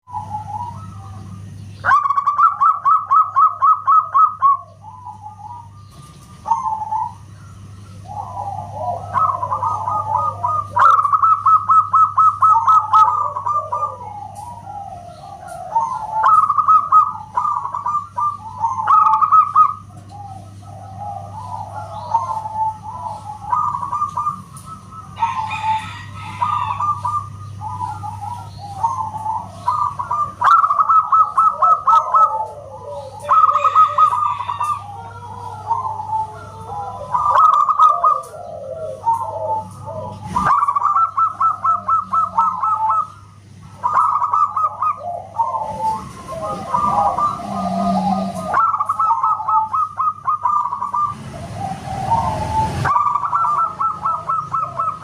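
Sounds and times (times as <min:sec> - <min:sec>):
doves cooing trills: 0:00.0 - 0:55.0
steady low hum: 0:00.0 - 0:55.0.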